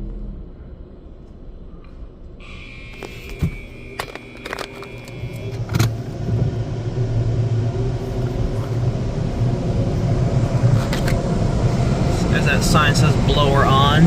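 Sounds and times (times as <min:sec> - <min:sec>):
low machine hum: 0:00.0 - 0:14.0
steady high whine: 0:00.0 - 0:14.0.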